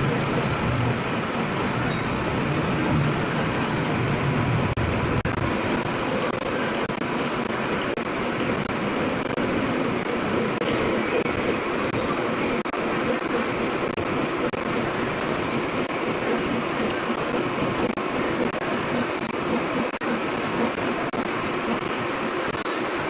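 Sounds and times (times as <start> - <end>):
metal lathe whirring: 0.0 - 23.0.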